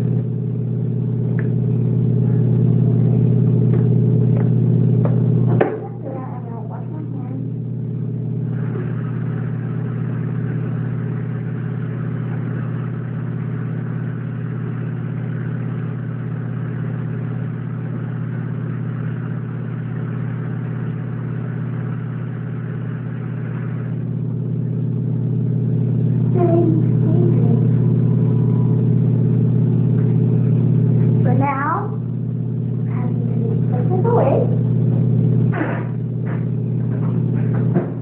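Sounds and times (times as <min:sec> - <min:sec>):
small electric motor humming: 0:00.0 - 0:37.7.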